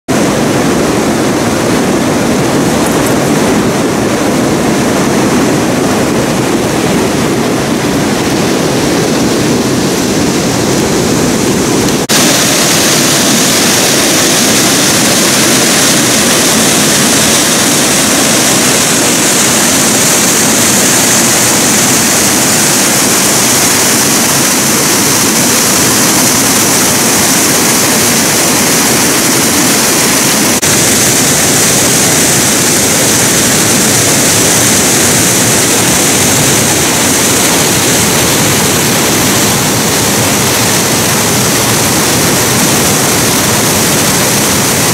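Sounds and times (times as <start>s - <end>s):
whitewater rushing over rocks: 0.1s - 44.9s.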